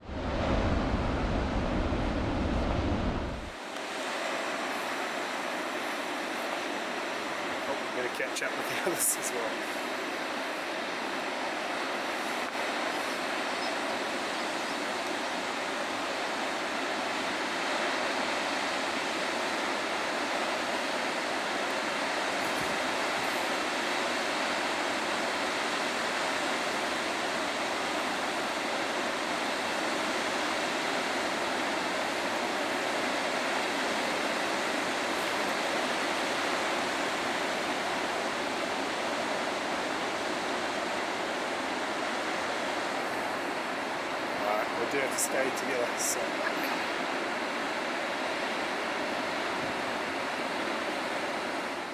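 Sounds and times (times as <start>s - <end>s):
sea surf on the shore: 0.0s - 51.9s.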